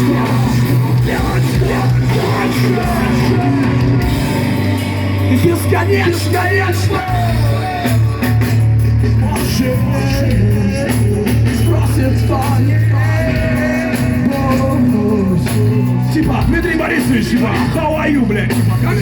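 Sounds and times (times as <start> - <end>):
heavy rock band playing: 0.0 - 19.0
person singing: 0.0 - 19.0.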